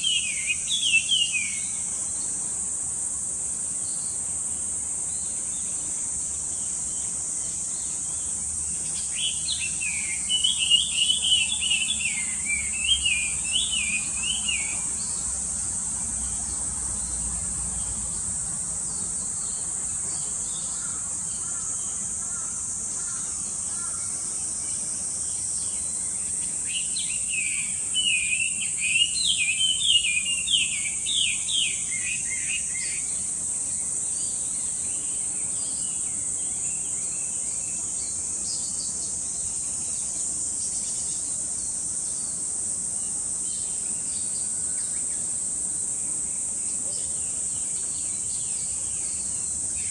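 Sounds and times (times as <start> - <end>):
high-pitched insect drone: 0.0 - 49.9.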